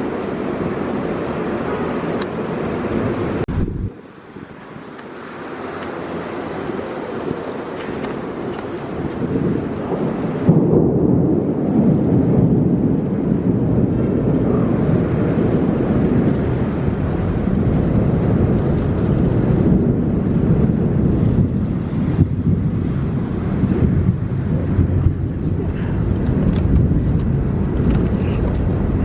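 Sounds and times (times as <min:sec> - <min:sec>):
heavy rain: 0:00.0 - 0:29.0
thunder rumbling: 0:00.0 - 0:29.0.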